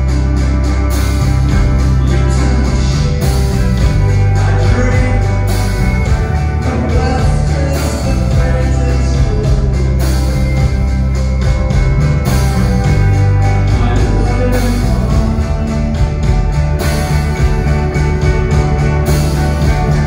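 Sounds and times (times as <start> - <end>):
drum kit: 0.0 - 20.0
electric bass: 0.0 - 20.0
electric guitars: 0.0 - 20.0.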